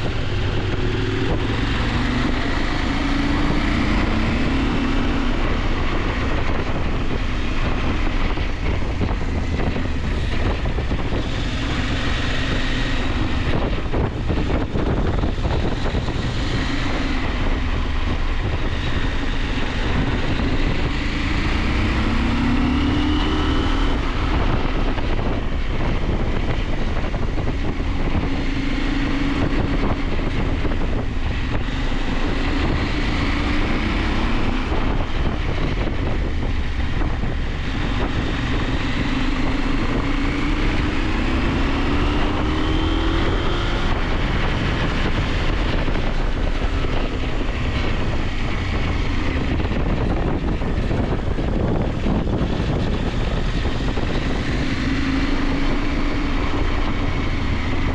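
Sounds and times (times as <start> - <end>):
motorcycle engine revving: 0.0 - 57.9
wind noise on microphone: 0.0 - 57.9.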